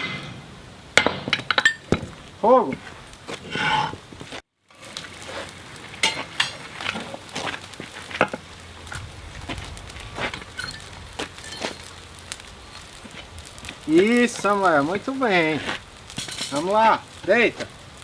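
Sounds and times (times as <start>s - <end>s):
hot steel and fire sizzling: 0.0s - 18.0s.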